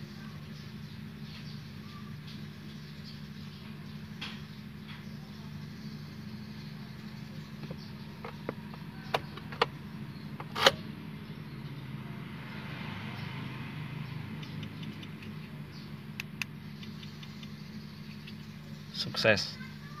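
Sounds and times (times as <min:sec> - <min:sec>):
steady low hum: 0:00.0 - 0:12.5, 0:13.6 - 0:20.0.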